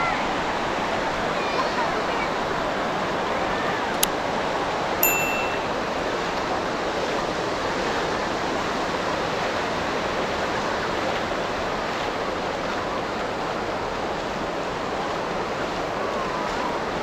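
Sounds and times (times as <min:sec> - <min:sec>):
ocean surf on beach: 0:00.0 - 0:17.0.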